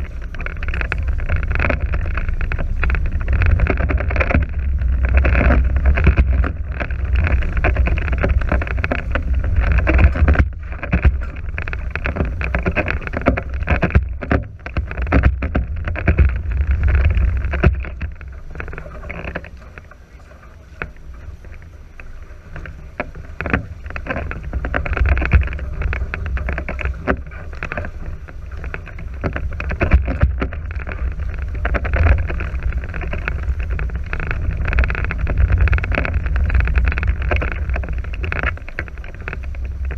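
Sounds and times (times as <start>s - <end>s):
water rushing along hulls: 0.0s - 39.9s
wind buffeting microphone: 0.0s - 39.9s.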